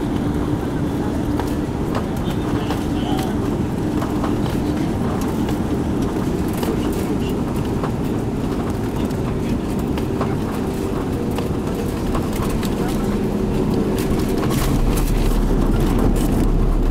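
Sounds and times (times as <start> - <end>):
rumble of engines and wheels: 0.0 - 16.9.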